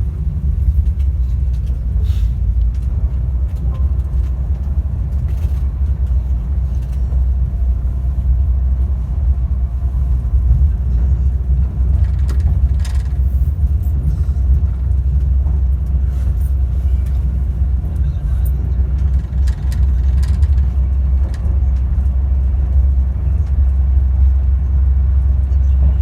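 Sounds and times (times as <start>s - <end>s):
train rumbling from inside: 0.0s - 26.0s.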